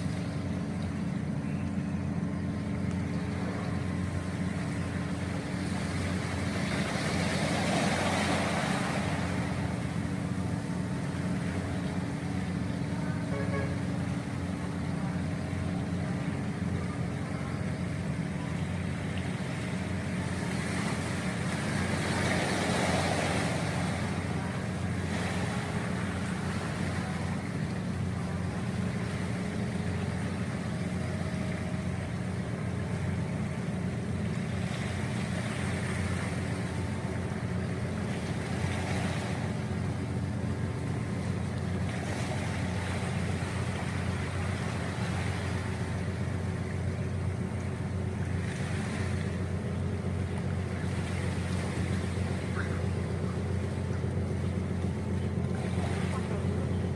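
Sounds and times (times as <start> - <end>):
ferry engines droning: 0.0 - 56.9.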